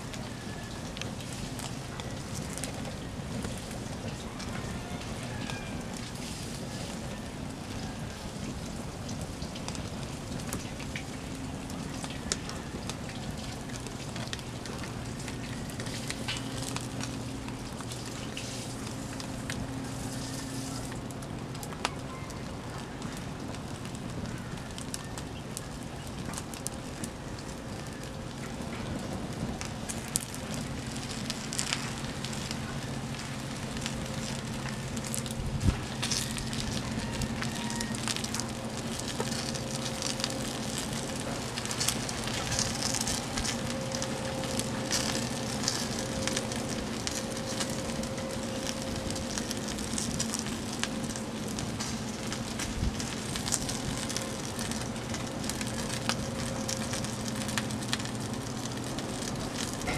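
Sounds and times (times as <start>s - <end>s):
rush of flame: 0.0s - 21.8s, 22.5s - 59.9s
fire crackling and popping: 0.0s - 59.9s.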